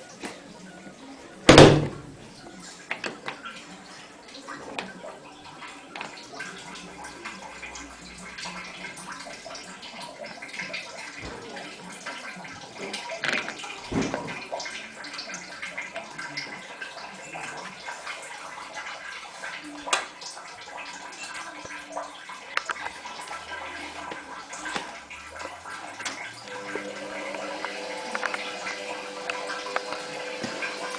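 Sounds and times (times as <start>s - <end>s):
water sloshing in washing machine: 0.0s - 30.9s.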